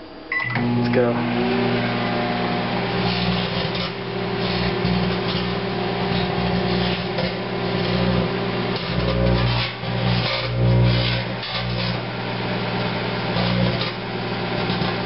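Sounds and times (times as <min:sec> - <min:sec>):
microwave oven humming: 0:00.0 - 0:15.0
buzzing crackle of sparking: 0:01.8 - 0:15.0.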